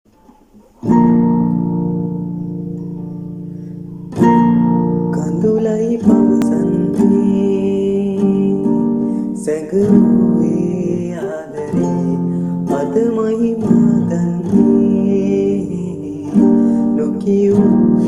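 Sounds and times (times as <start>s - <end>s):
guitar chords and notes: 0.1s - 18.0s.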